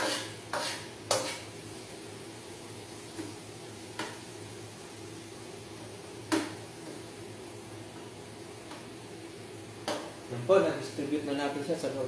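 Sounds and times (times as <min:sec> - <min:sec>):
onion sizzling in a frying pan: 0:00.0 - 0:12.0.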